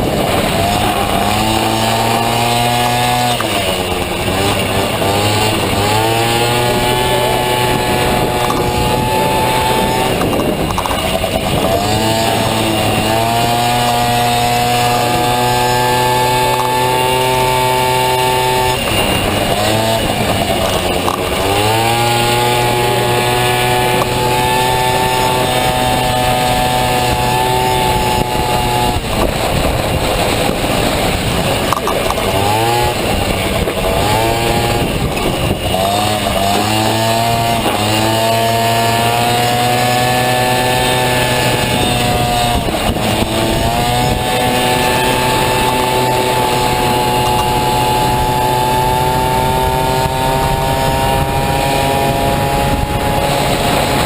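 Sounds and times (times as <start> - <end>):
scooter engine revving high: 0.0 - 54.0.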